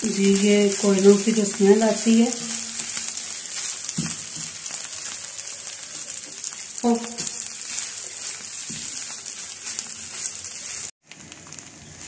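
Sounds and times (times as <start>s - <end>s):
mince sizzling and crackling: 0.0s - 12.0s.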